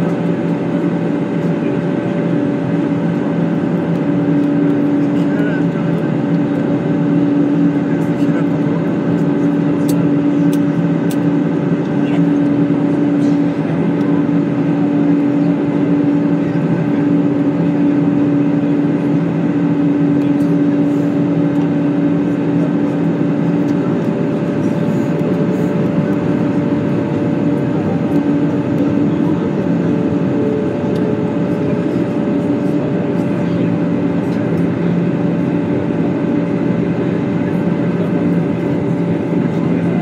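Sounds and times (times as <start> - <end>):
engine drone: 0.0 - 40.0.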